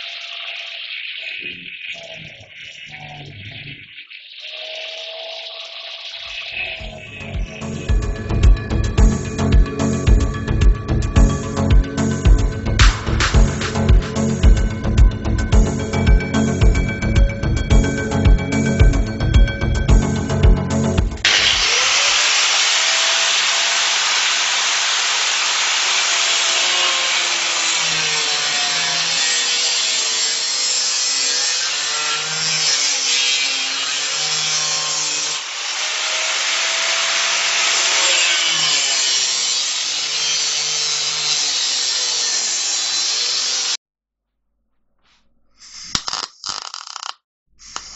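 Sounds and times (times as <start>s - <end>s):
angle grinder cutting steel: 0.0s - 10.6s, 12.0s - 15.0s, 21.2s - 43.8s, 45.6s - 47.9s.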